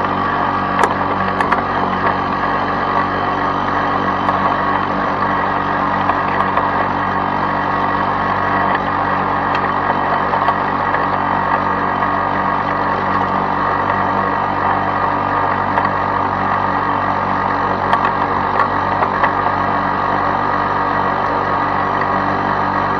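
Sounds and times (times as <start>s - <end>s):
lawn mower engine buzzing: 0.0s - 22.9s.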